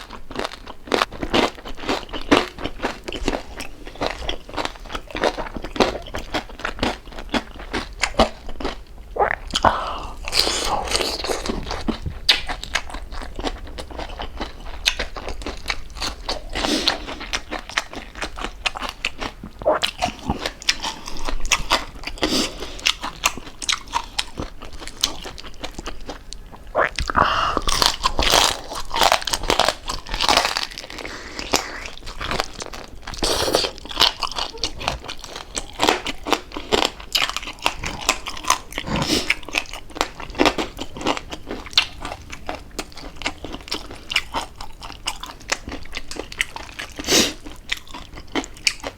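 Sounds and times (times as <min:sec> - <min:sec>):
crunching and chewing crispy food: 0:00.0 - 0:48.9.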